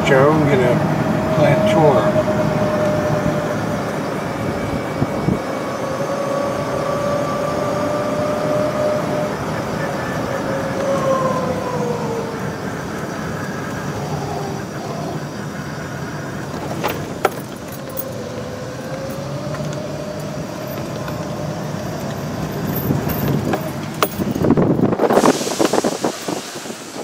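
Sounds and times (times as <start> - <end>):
electric vehicle drive whine: 0.0 - 27.0
road and wind noise: 0.0 - 27.0.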